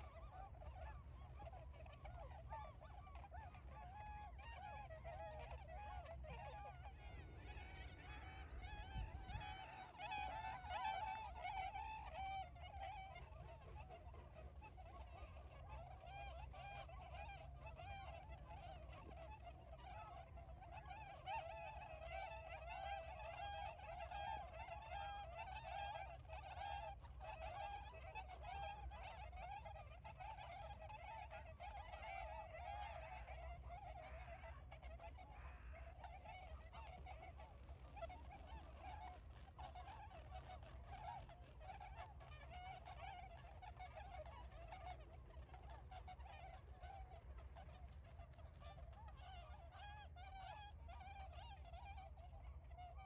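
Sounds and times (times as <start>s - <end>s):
swans honking: 0.0s - 53.0s.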